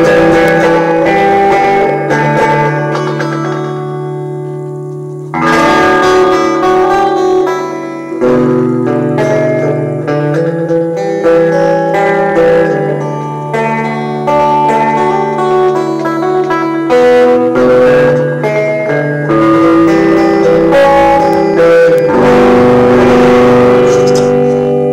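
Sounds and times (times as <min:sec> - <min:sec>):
solo guitar playing: 0:00.0 - 0:24.9.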